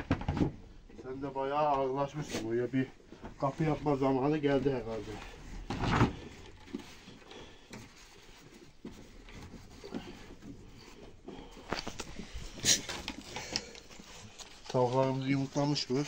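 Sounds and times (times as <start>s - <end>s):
rustling and shuffling: 0.0s - 16.0s.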